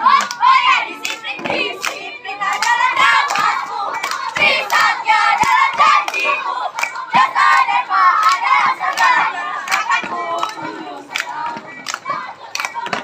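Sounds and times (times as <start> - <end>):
children chanting together: 0.0 - 13.0
sharp hand claps: 0.1 - 0.4, 1.0 - 13.0.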